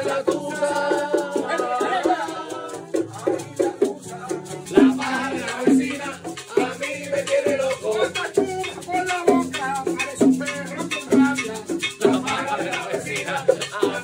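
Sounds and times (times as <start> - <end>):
acoustic guitar strumming: 0.0 - 14.0
maracas shaking: 0.0 - 14.0
men singing: 0.0 - 14.0.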